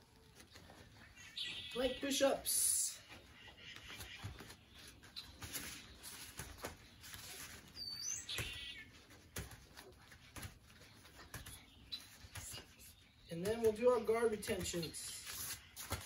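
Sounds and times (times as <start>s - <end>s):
rustling: 0.0s - 1.7s, 3.0s - 16.0s.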